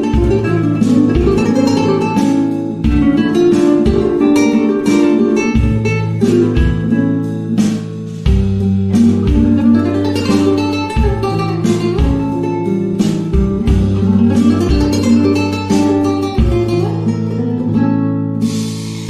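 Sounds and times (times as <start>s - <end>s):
plucked acoustic guitar music: 0.0s - 19.0s.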